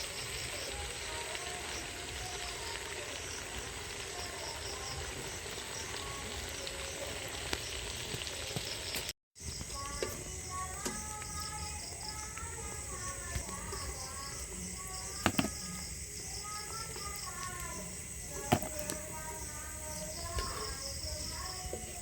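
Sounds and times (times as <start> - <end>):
faint chirps: 0.0 - 22.0
food sizzling in hot oil: 0.0 - 22.0.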